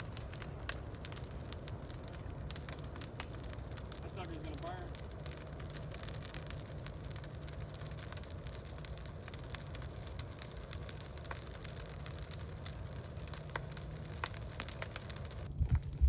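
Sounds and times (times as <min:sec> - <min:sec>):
bonfire crackling and popping: 0:00.0 - 0:16.0
fire low rumble: 0:00.0 - 0:16.0.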